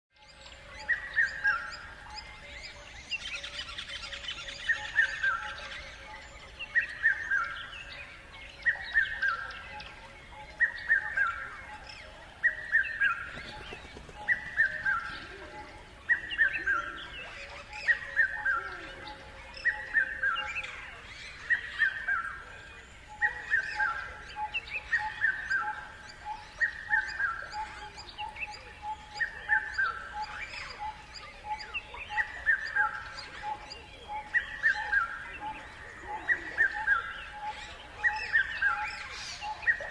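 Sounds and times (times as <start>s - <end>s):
birds chirping: 0.3s - 39.9s.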